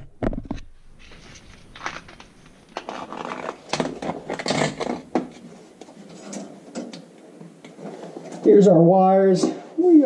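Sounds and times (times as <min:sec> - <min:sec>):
scraping and rustling: 0:00.3 - 0:08.7.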